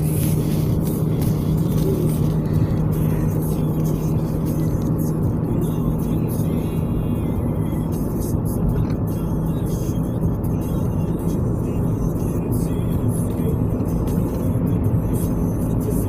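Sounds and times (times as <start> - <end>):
car engine and road noise: 0.0 - 16.0
car radio playing music: 0.0 - 16.0.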